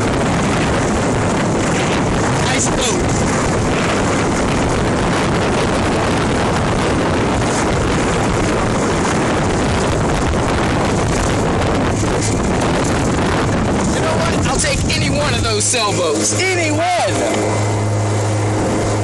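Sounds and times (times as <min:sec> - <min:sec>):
motorboat engine: 0:00.0 - 0:19.0
wind on microphone: 0:00.0 - 0:19.0.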